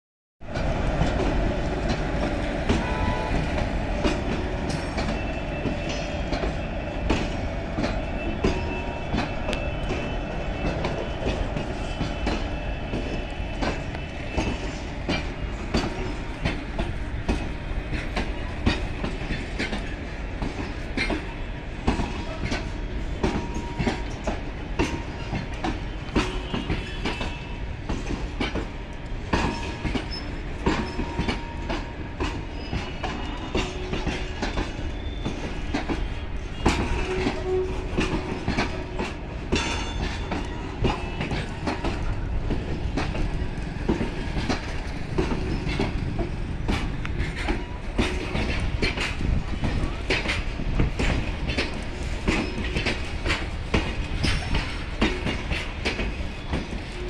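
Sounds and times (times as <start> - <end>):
train rumbling past: 0.4 - 57.0
steel wheels clacking over rail joints: 0.5 - 57.0.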